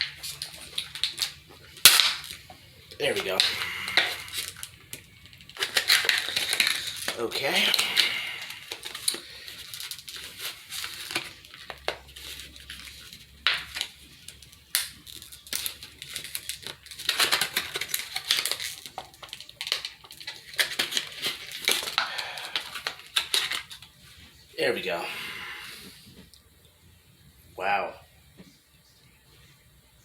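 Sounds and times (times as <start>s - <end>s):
plastic packaging crinkling and tearing: 0.0s - 24.4s.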